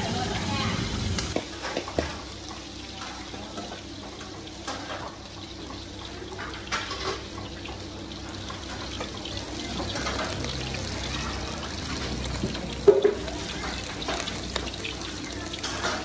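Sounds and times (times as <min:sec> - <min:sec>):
food sizzling in deep oil: 0:00.0 - 0:16.0.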